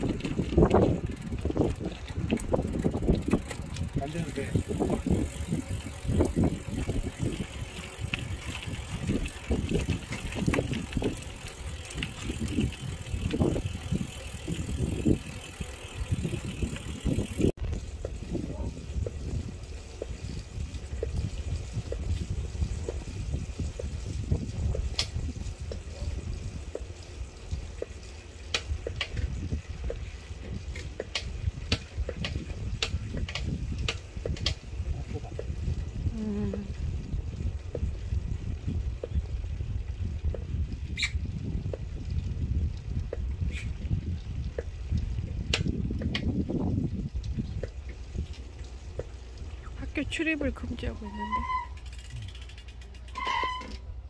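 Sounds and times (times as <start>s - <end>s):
wind buffeting microphone: 0.0s - 52.4s
sharp bicycle clicks: 0.0s - 54.0s.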